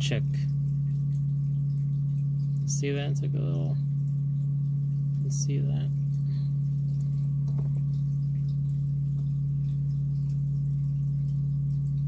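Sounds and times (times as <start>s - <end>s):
low electrical motor hum: 0.0s - 12.0s.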